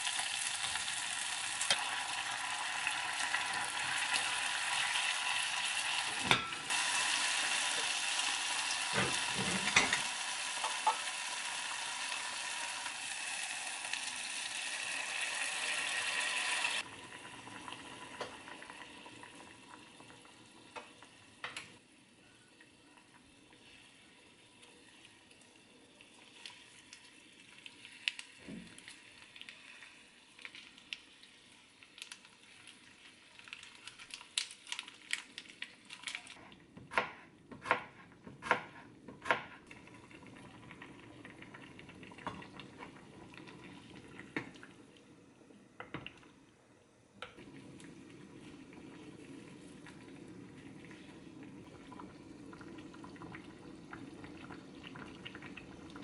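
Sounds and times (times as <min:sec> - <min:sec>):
stew simmering in a pot: 0:00.0 - 0:56.0.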